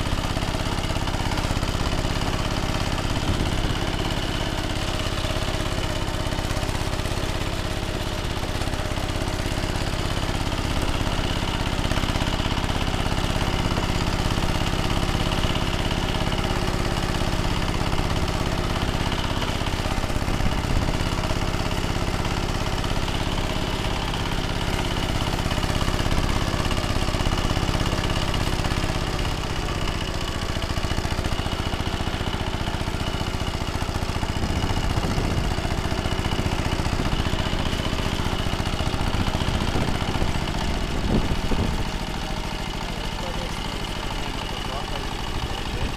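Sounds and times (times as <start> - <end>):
tiller engine running: 0.0 - 45.9.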